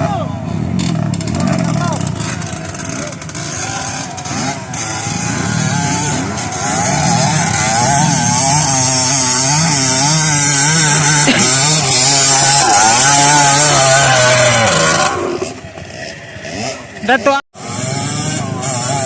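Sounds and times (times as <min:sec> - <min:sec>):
small motorcycle engine revving: 0:00.7 - 0:19.0.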